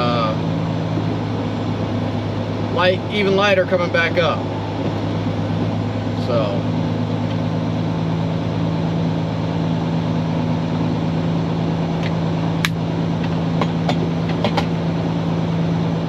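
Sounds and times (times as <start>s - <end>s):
truck diesel engine drone: 0.0s - 16.0s.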